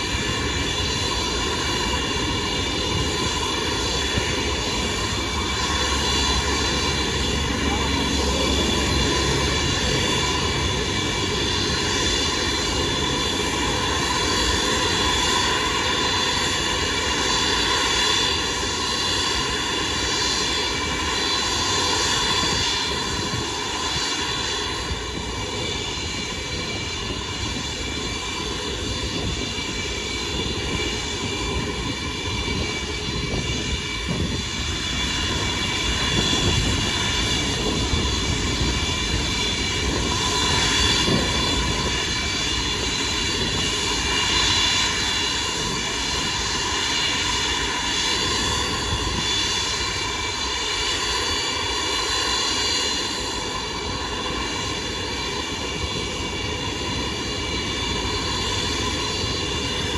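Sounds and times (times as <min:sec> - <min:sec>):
jet engines whining at taxi power: 0:00.0 - 0:59.9.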